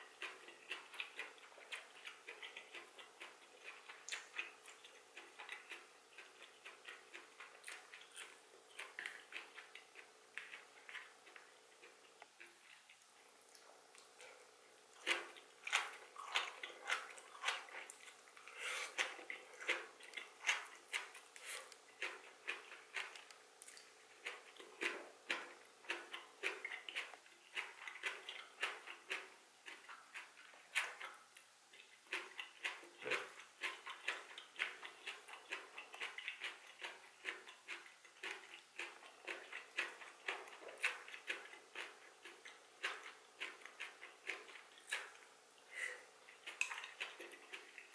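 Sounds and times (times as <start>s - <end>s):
wet chewing mouth clicks: 0.0s - 47.9s.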